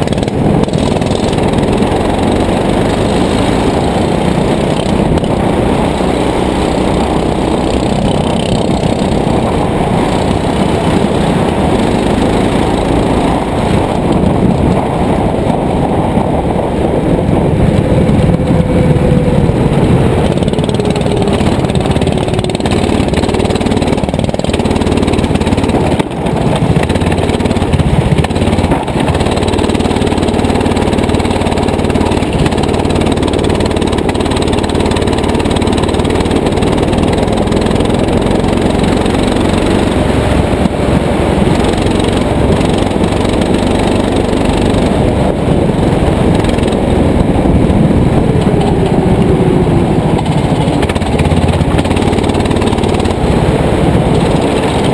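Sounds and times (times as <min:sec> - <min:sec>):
go-kart engine running hard: 0:00.0 - 0:54.9.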